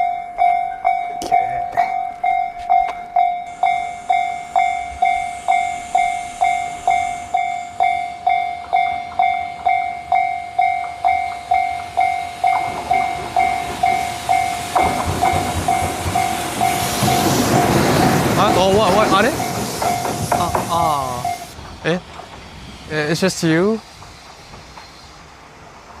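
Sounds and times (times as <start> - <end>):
level crossing warning bell: 0.0 - 21.6
freight train approaching: 0.0 - 26.0.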